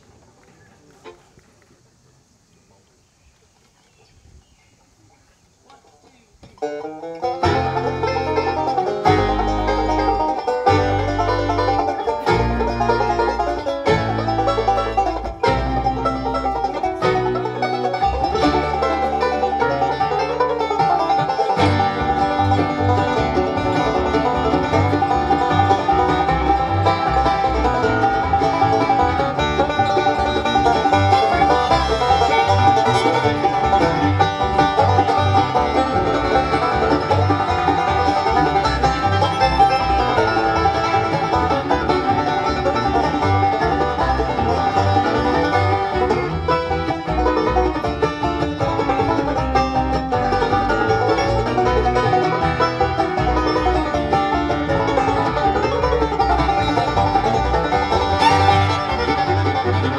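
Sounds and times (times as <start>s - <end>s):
bluegrass band playing: 6.3s - 59.9s
upright bass plucking: 6.6s - 59.9s.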